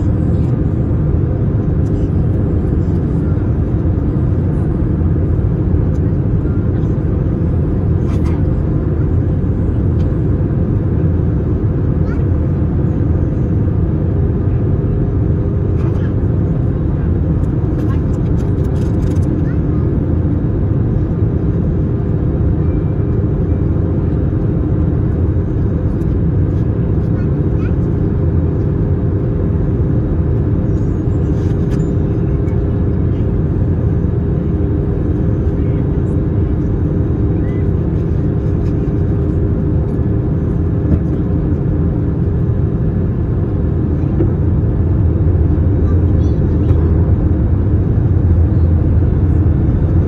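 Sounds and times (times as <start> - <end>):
airflow over fuselage: 0.0 - 50.0
airplane cabin rumble: 0.0 - 50.0
steady hum: 0.0 - 50.0.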